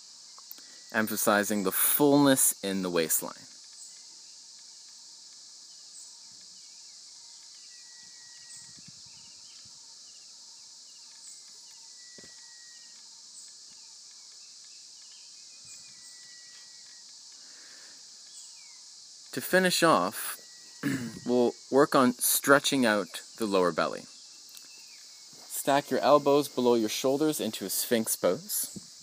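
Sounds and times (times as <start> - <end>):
insect chorus: 0.0 - 29.0
bird chirps: 0.2 - 29.0.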